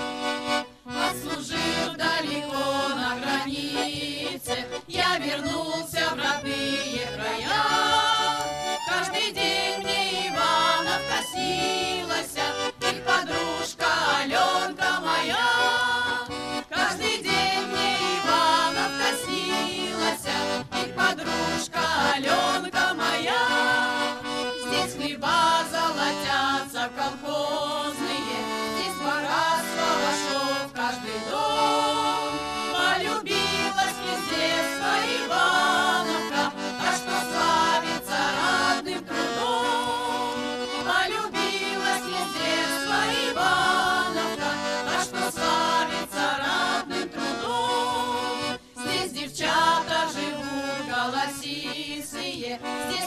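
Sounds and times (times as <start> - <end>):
folk choir singing: 0.0 - 53.0
held instrumental notes: 0.0 - 53.0.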